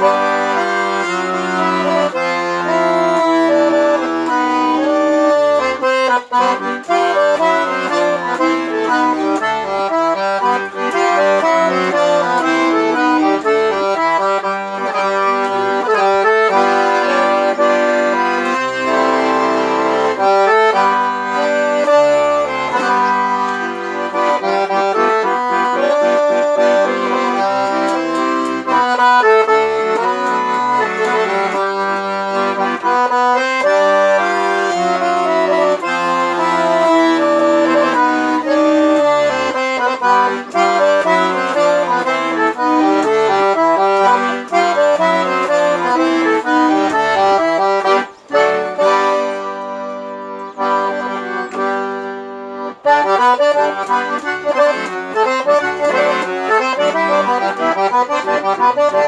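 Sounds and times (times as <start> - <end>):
accordion melody: 0.0 - 59.0.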